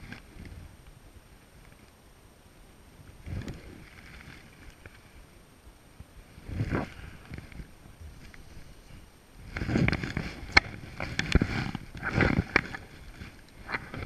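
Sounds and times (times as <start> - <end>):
wind on microphone: 0.0 - 1.3, 2.9 - 5.4, 6.0 - 14.0.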